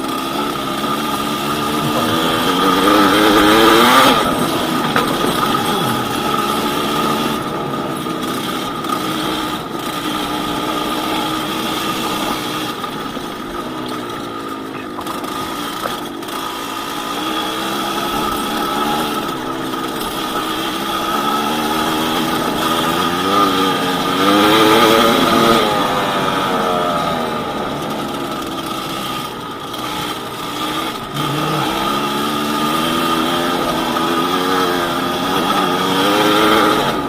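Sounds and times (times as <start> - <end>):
two-stroke motorcycle engine running: 0.0 - 37.0.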